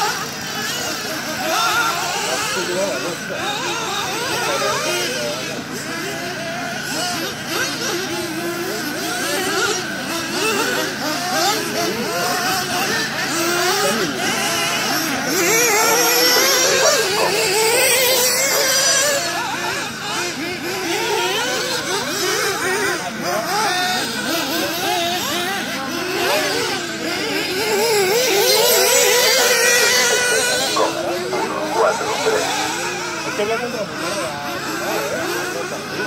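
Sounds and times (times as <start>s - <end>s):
radio-controlled car motors whining: 0.0s - 36.0s.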